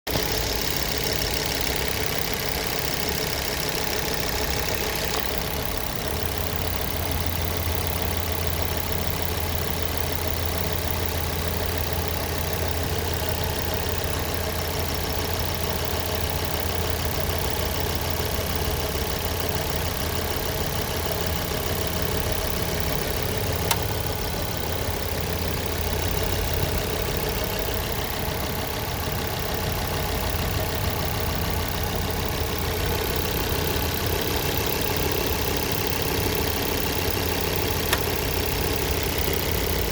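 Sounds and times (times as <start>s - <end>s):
car engine running: 0.1s - 39.9s.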